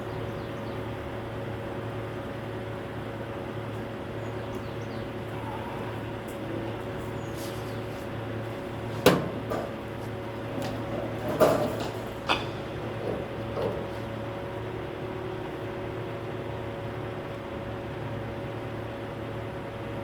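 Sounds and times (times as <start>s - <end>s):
truck engine humming: 0.0s - 17.9s.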